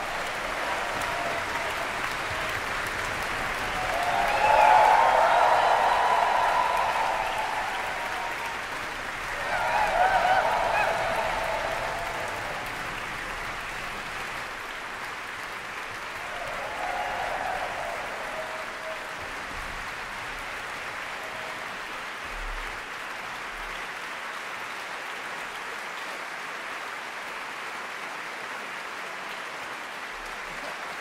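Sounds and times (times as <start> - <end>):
audience applauding: 0.0 - 31.0.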